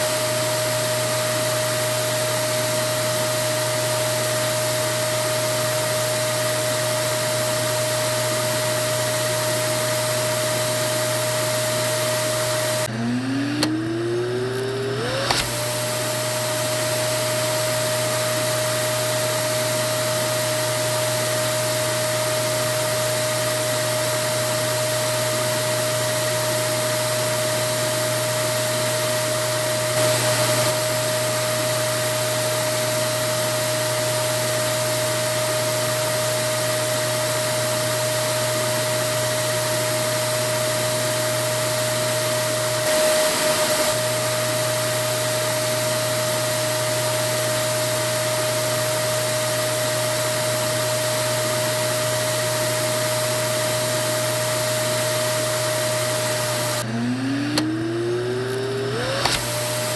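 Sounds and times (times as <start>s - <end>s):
vacuum cleaner motor whining: 0.0s - 59.9s.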